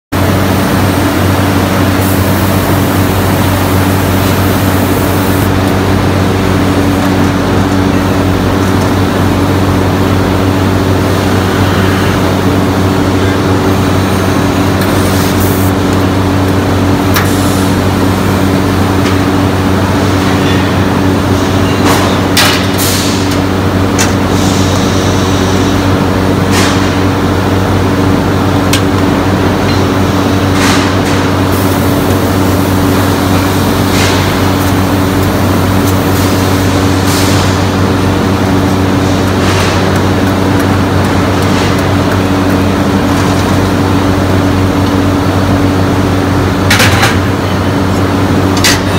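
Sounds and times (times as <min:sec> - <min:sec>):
machinery drone: 0:00.1 - 0:48.9.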